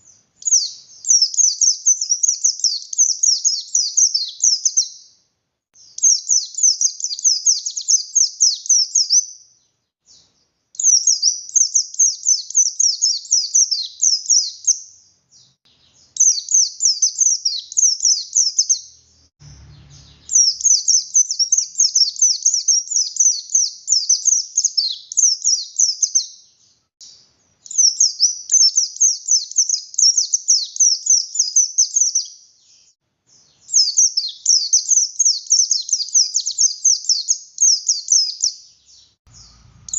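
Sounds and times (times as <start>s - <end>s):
bird twittering song: 0.0s - 5.2s, 5.8s - 39.9s.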